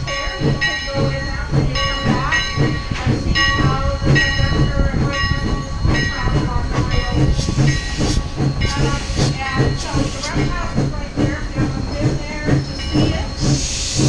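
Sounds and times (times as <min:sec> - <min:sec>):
train coach squeaks and knocks: 0:00.0 - 0:14.0.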